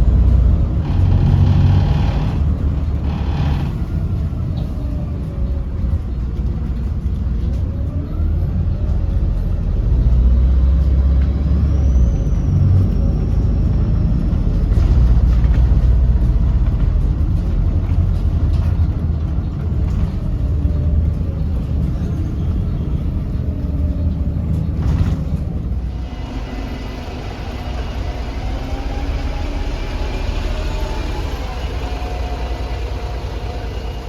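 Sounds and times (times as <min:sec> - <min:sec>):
bus diesel engine rumbling: 0:00.0 - 0:34.0.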